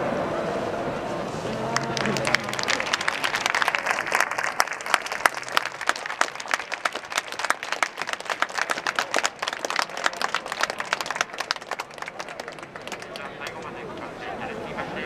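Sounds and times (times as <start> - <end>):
crowd applauding: 1.4 - 14.2.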